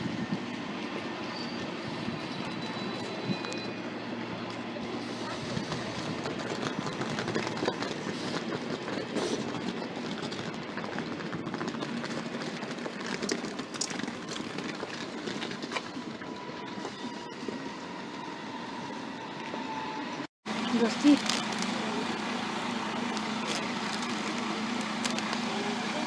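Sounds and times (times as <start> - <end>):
train rumbling on rails: 0.0 - 26.0
wheels clicking on rails: 0.2 - 26.0.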